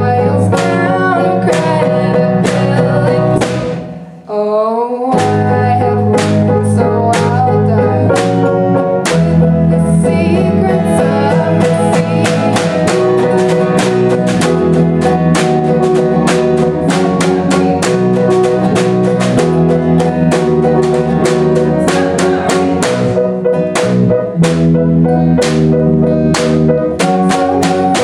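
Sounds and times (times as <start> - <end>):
bass notes: 0.0 - 4.4, 5.0 - 28.0
drum kit beat: 0.0 - 4.4, 5.1 - 28.0
guitar: 0.0 - 28.0.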